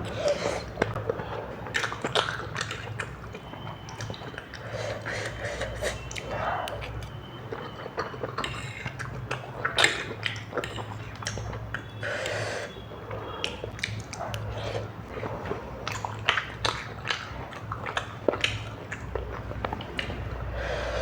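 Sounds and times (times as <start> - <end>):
chewing and slurping noodles: 0.0 - 21.0
wet eating smacks and clicks: 0.0 - 21.0.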